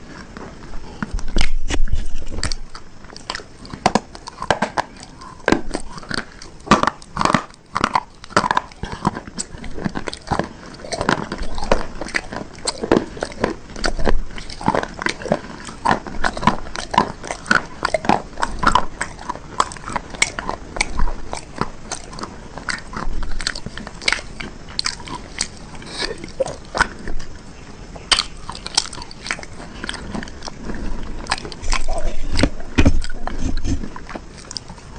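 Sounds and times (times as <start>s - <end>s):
person crunching on hard bars: 0.0s - 34.9s.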